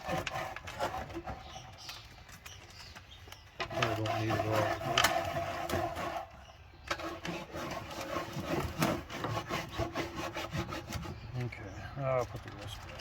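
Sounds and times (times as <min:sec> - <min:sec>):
hand scraping on wood: 0:00.0 - 0:11.8.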